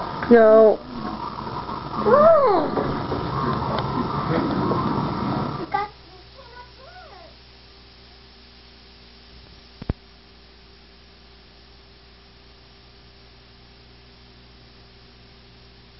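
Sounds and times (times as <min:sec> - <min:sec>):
mains hum: 0:00.0 - 0:15.9
tape hiss: 0:00.0 - 0:15.9.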